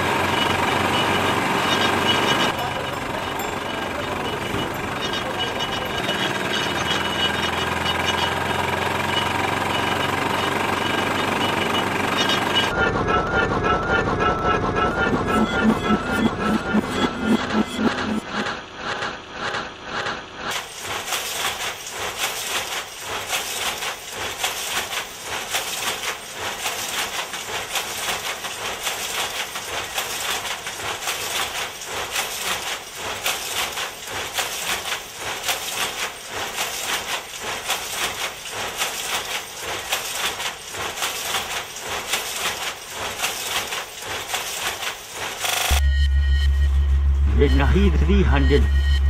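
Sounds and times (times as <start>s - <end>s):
power looms clattering: 0.0s - 45.8s.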